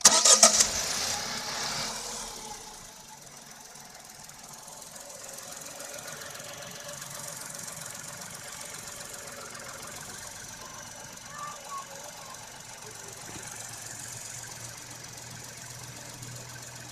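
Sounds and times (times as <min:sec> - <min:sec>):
car engine starting and idling: 0:00.0 - 0:16.9.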